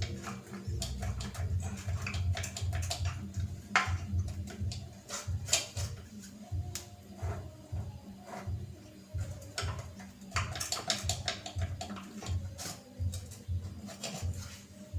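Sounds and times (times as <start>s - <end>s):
background music with low beat: 0.0s - 14.9s.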